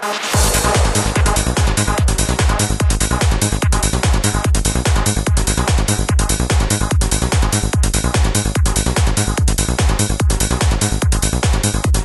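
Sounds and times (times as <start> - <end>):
electronic dance music: 0.0 - 12.0
heavy kick drum: 0.4 - 12.0.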